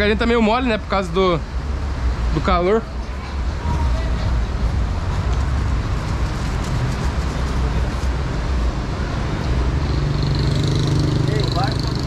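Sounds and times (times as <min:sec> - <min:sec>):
road traffic rumble: 0:00.0 - 0:12.0
vehicle engine hum: 0:00.0 - 0:12.0.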